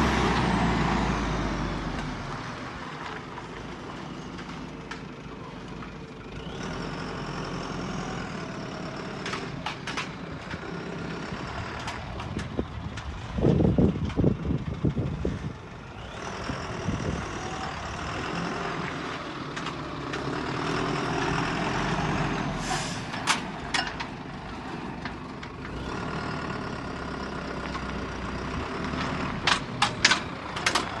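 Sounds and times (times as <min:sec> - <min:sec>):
truck engine running: 0:00.0 - 0:31.0.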